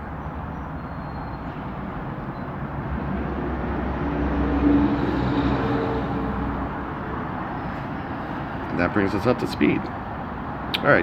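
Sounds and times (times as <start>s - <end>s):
heavy vehicle engine rumbling: 0.0s - 10.7s.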